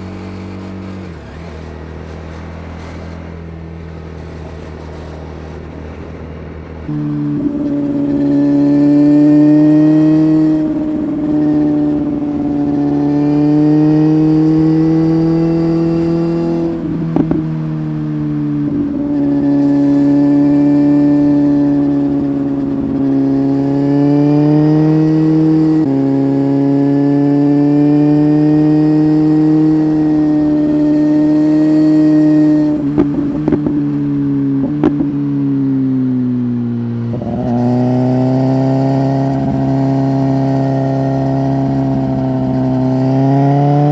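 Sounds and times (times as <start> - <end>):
exhaust cracks: 0.0 - 43.9
motorcycle engine revving: 0.0 - 43.9.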